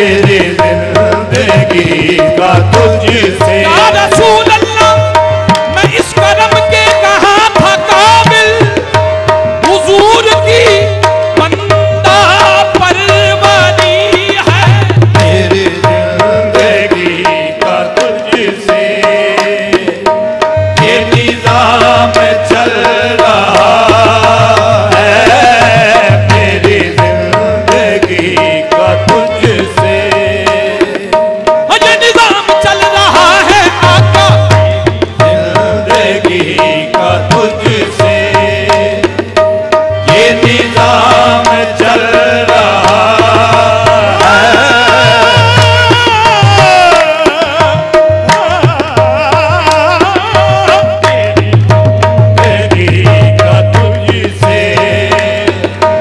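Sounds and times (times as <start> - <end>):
harmonium held note: 0.0 - 56.0
tabla strokes: 0.0 - 56.0.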